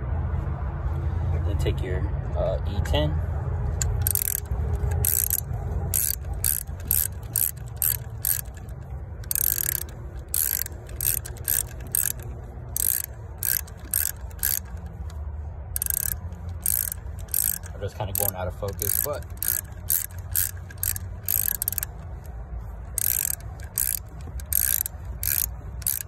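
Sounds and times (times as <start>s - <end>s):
ratchet wrench clicking: 3.8s - 26.0s.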